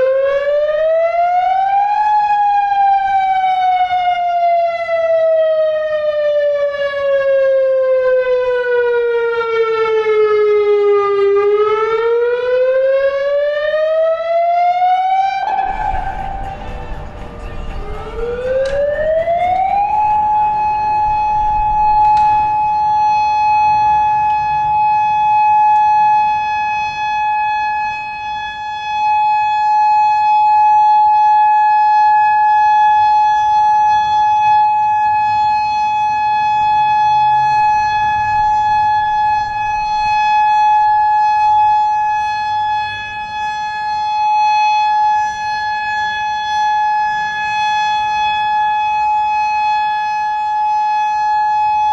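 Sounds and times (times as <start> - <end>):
outdoor warning siren: 0.0 - 51.9.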